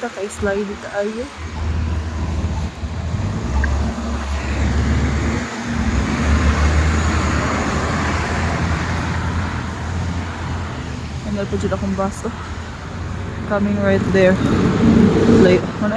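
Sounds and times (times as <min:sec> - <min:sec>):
low traffic rumble: 0:00.0 - 0:15.9
vehicle passing on snowy road: 0:00.1 - 0:15.9.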